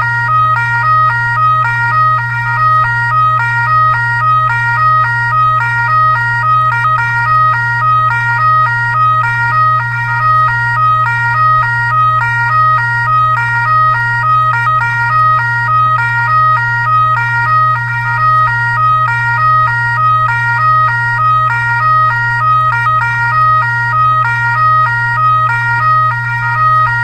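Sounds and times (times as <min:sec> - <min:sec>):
electronic siren beeping: 0:00.0 - 0:27.0
steady low hum: 0:00.0 - 0:27.0.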